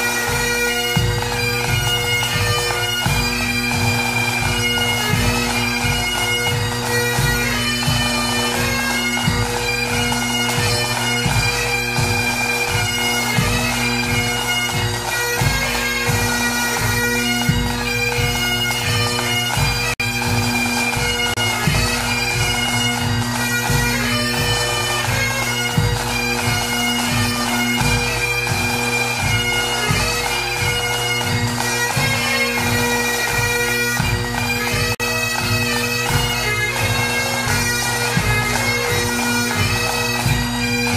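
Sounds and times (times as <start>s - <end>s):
bagpipe melody over drones: 0.0s - 40.9s.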